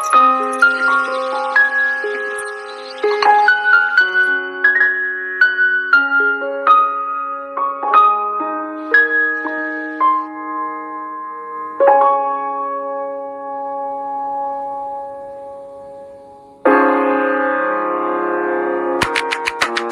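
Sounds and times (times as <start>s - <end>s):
slow piano notes: 0.0s - 19.0s.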